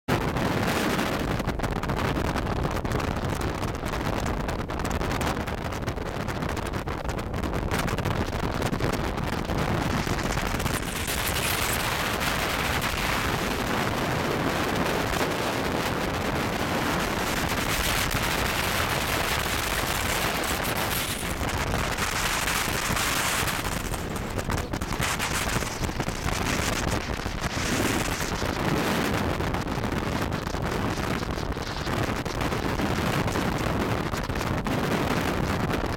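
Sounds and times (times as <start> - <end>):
wind buffeting microphone: 0.1 - 35.9.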